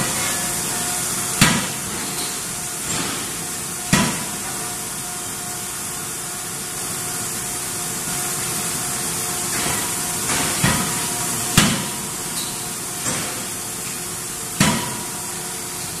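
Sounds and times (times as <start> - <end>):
machinery hum: 0.0 - 16.0.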